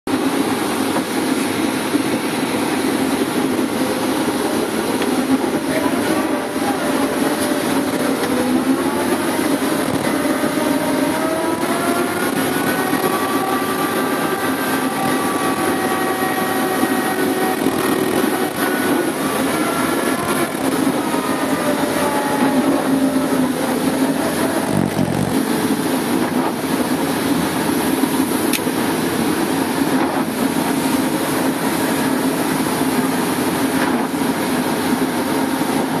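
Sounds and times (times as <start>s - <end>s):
diesel engine under load: 0.1s - 36.0s
rising whine: 0.1s - 36.0s.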